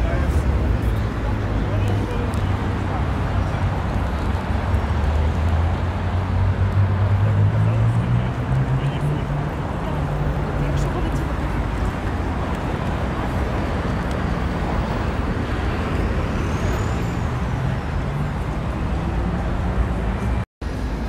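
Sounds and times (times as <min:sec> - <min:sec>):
passing cars and buses: 0:00.0 - 0:21.0.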